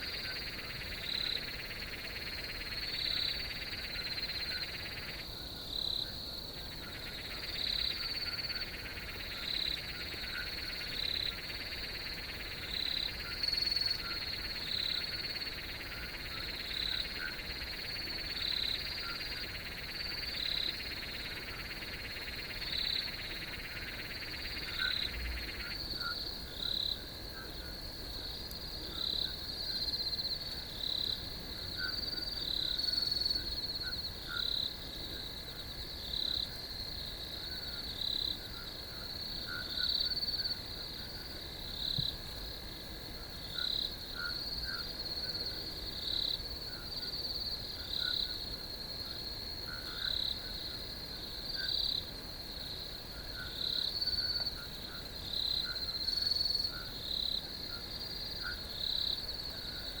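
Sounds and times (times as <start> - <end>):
crickets chirping: 0.0 - 60.0
loud pulsing insect call: 0.0 - 60.0.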